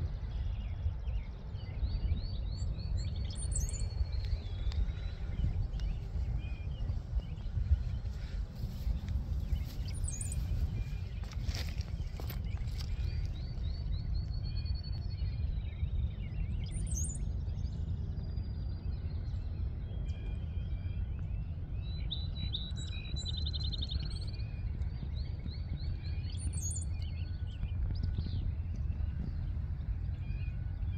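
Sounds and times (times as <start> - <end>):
birds chirping and singing: 0.0 - 30.9
steady low rumble: 0.0 - 30.9.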